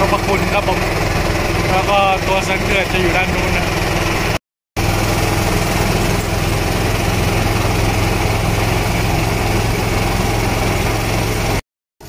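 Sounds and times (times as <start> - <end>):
boat engine humming: 0.0 - 11.6.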